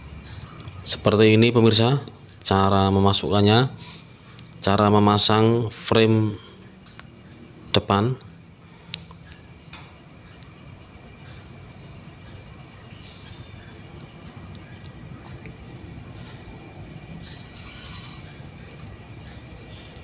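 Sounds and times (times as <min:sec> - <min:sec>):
steady high-pitched whine: 0:00.0 - 0:20.0.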